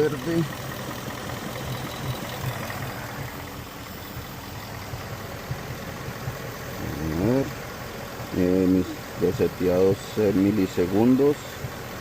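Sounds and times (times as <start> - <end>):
misfiring car engine idling: 0.0 - 12.0.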